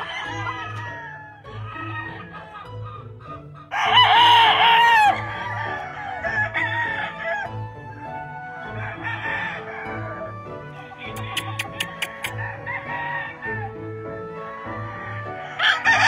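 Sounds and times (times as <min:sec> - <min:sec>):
background music beat: 0:00.0 - 0:16.0
roosters crowing: 0:00.0 - 0:16.0.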